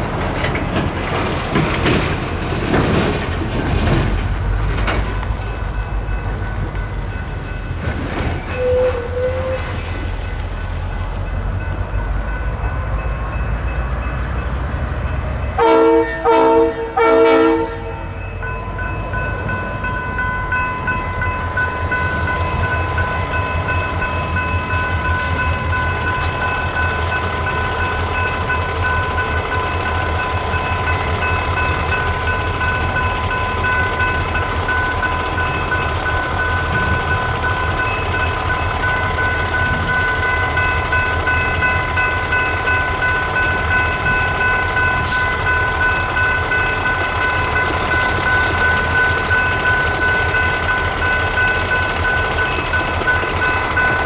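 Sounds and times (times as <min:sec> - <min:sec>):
train rumbling past: 0:00.0 - 0:54.0
railroad crossing bells ringing: 0:04.2 - 0:54.0.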